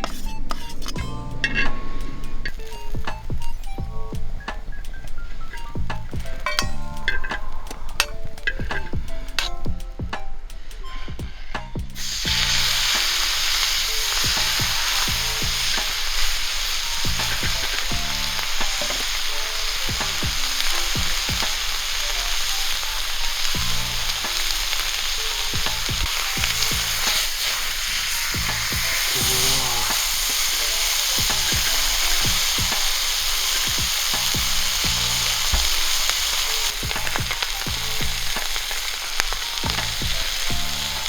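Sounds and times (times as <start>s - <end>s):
steak sizzling in a hot pan: 0.0s - 10.0s, 12.0s - 41.0s
spitting crackles: 0.0s - 41.0s.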